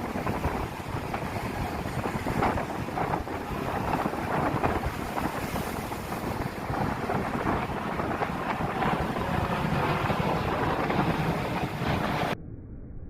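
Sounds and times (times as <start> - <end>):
sea waves breaking on rocks: 0.0 - 12.4
wind buffeting microphone: 0.0 - 12.4.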